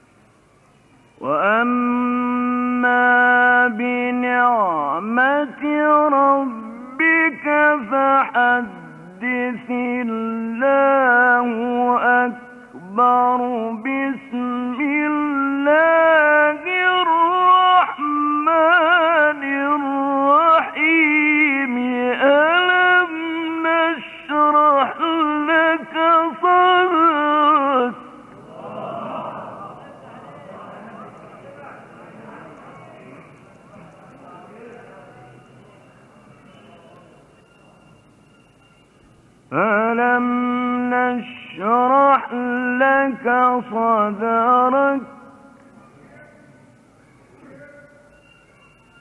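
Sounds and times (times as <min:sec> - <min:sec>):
man chanting melodically: 0:01.2 - 0:35.8, 0:39.5 - 0:48.2.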